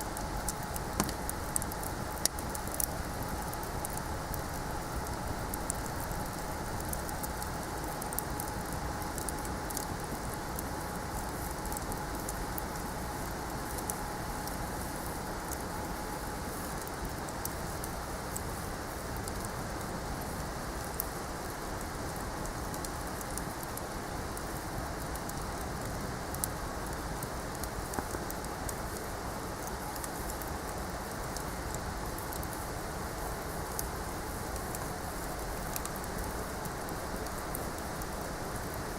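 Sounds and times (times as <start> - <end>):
bonfire crackling: 0.0 - 38.9.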